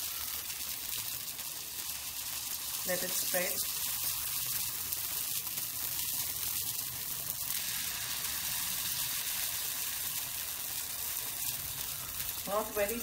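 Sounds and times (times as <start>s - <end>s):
batter sizzling in pan: 0.0s - 13.0s.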